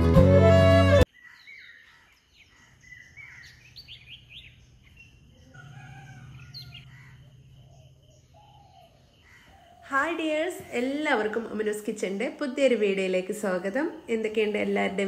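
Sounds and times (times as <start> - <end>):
birds chirping: 1.1 - 15.0.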